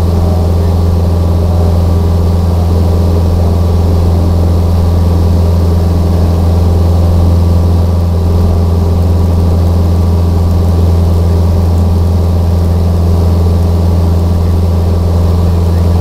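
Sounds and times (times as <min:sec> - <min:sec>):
aircraft engine and propeller drone: 0:00.0 - 0:16.0.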